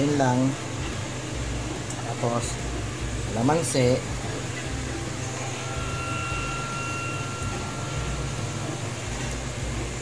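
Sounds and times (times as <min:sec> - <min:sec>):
faint thin whine: 0:00.0 - 0:10.0
mechanical hum and hiss: 0:00.0 - 0:10.0.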